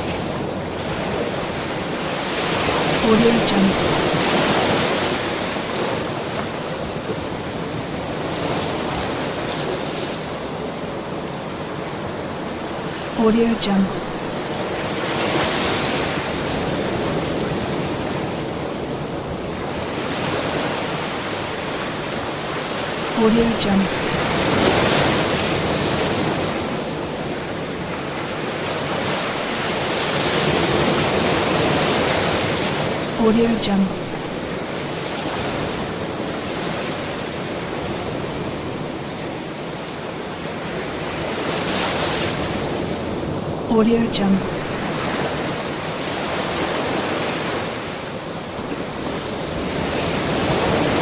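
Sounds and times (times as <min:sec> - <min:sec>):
ocean surf washing onto beach: 0:00.0 - 0:51.0.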